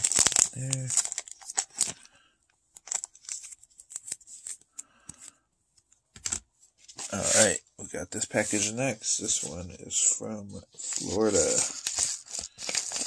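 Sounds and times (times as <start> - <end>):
plastic card sleeve rustling: 0.0 - 2.1, 2.7 - 5.4, 6.2 - 7.6, 8.4 - 13.0.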